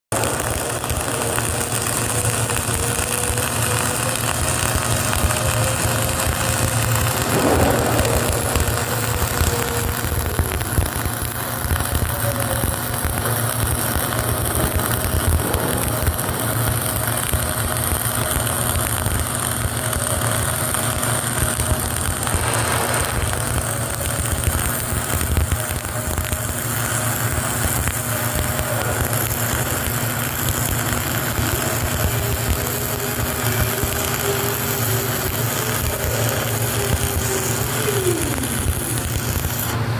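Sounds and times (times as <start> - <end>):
welding arc crackling and sizzling: 0.0 - 39.9.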